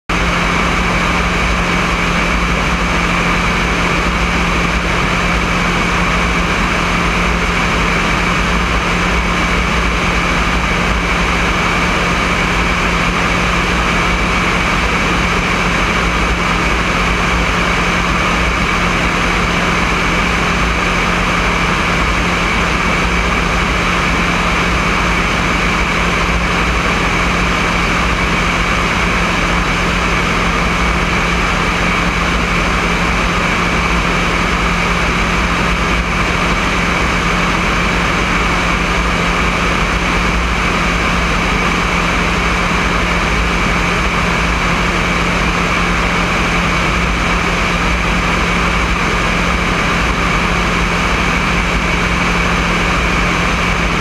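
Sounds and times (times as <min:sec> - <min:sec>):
light aircraft engine droning: 0:00.1 - 0:54.0.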